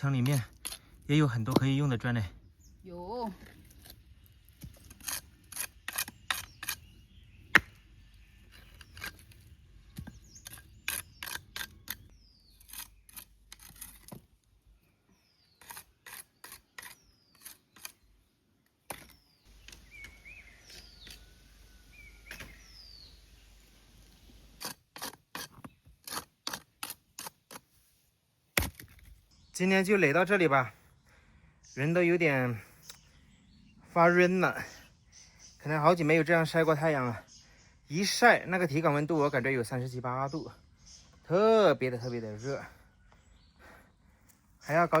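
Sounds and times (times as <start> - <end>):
bird chirping: 1.2 - 24.0, 29.2 - 45.0.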